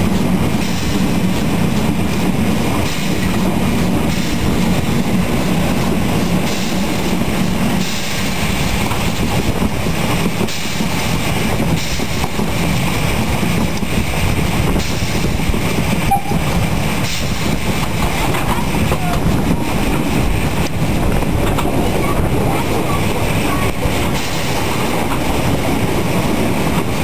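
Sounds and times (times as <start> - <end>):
steam locomotive wheels clattering: 0.0 - 27.0.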